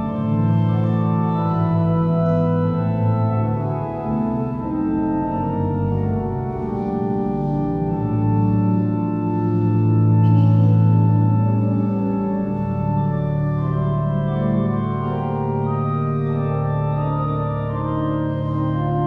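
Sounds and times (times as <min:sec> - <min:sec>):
church organ playing: 0:00.0 - 0:19.0.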